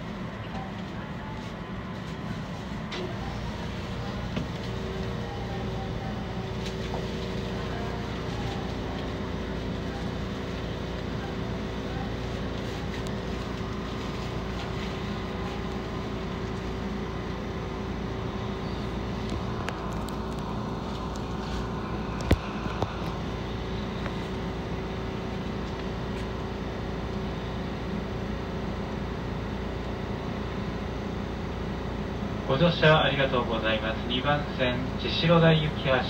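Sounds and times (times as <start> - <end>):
monorail car humming: 0.0 - 36.0.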